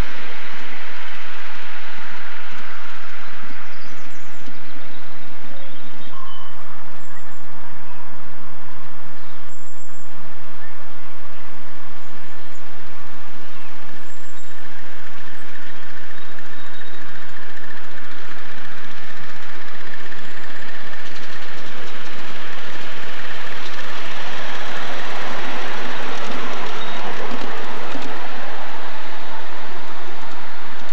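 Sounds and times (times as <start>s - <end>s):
steam locomotive running: 0.0s - 9.5s, 10.1s - 30.9s.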